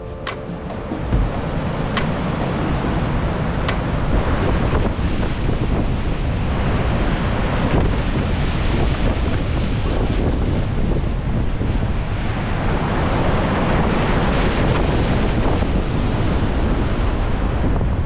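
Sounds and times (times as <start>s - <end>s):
sea surf rushing: 0.0s - 17.6s
wind buffeting microphone: 1.2s - 18.0s.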